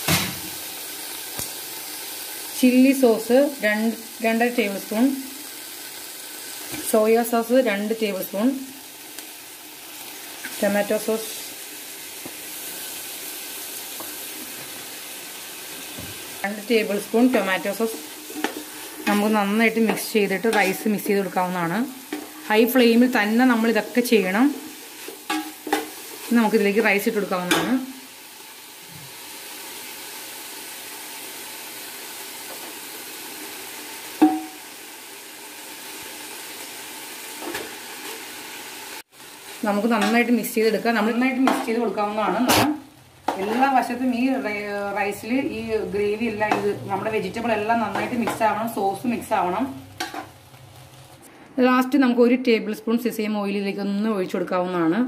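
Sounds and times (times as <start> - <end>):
vegetables sizzling in a pan: 0.0 - 52.4.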